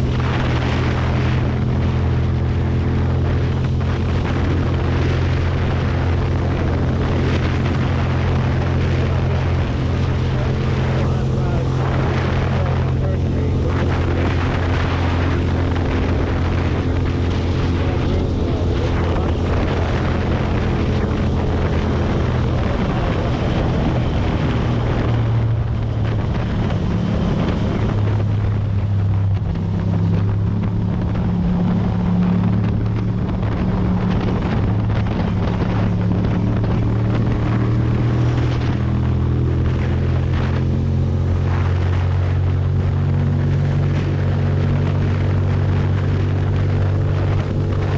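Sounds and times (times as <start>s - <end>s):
motorcycle engine running: 0.0s - 47.9s
wind rushing over microphone: 0.0s - 47.9s.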